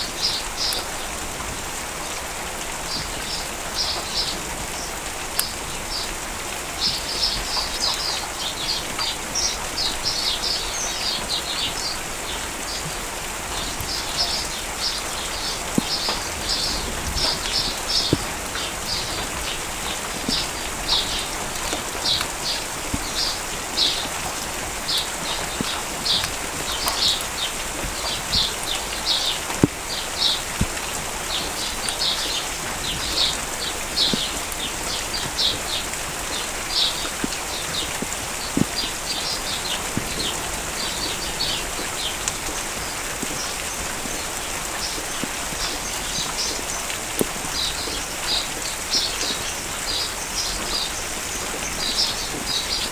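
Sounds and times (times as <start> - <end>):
drip ticks: 0.0 - 52.9
steady rain falling: 0.0 - 52.9.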